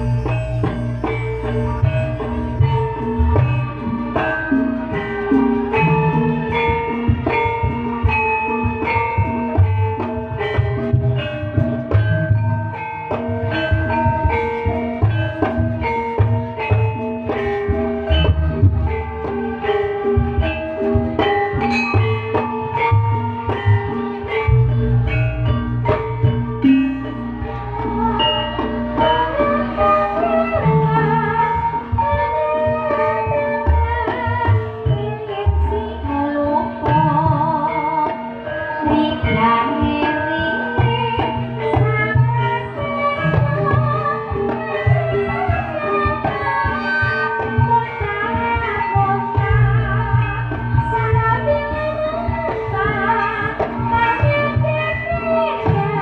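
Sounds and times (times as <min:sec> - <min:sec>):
gongs and metallophones ringing: 0:00.0 - 0:56.0.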